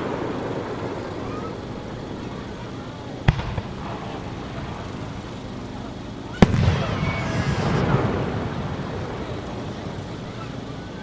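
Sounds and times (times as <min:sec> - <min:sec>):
firework burst rumbling echo: 0:00.0 - 0:10.7.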